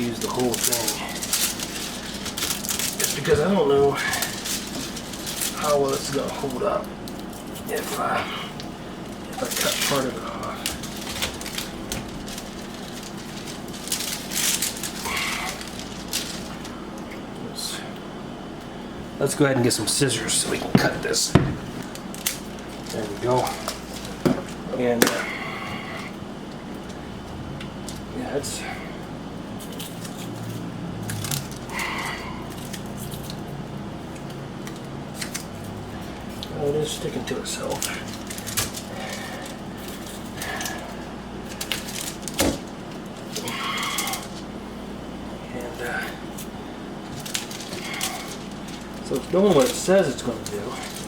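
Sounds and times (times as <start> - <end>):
tape rustling and clicking: 0.0 - 17.4, 20.3 - 28.1, 29.0 - 44.6, 45.5 - 51.0
steady low hum: 0.0 - 51.0.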